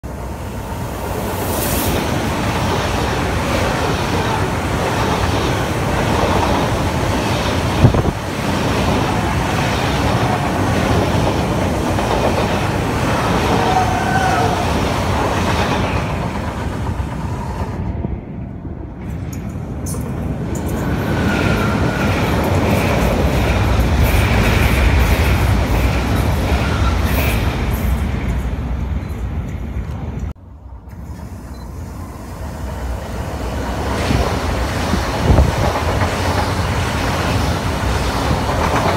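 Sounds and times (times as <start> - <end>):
approaching train rumble and whine: 0.0 - 38.9
train rushing past: 0.0 - 38.9.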